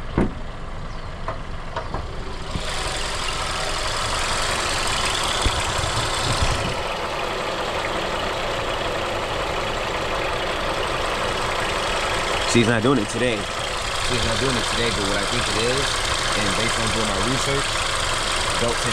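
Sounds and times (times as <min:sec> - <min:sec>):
car engine rumbling: 0:00.0 - 0:18.9.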